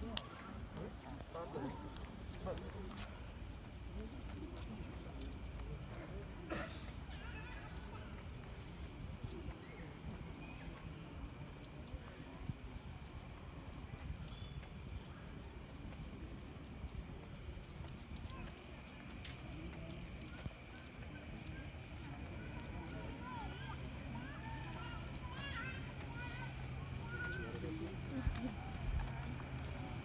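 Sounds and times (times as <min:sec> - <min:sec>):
night insects chirping: 0:00.0 - 0:30.0.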